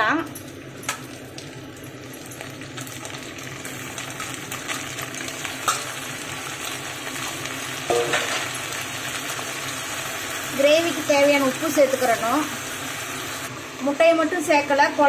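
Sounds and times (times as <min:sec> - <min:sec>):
chicken sizzling in oil: 0:00.6 - 0:15.0.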